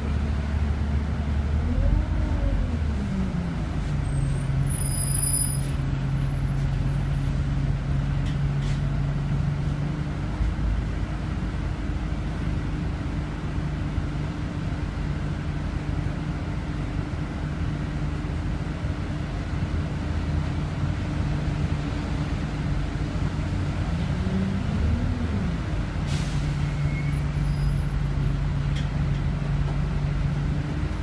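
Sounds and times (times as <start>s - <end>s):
bus engine humming: 0.0s - 31.0s.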